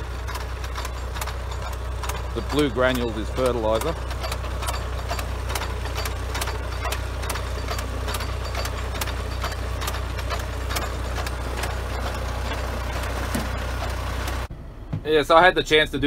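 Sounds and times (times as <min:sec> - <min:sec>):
tractor engine running: 0:00.0 - 0:16.0
sharp clicks from planting units: 0:00.2 - 0:14.5.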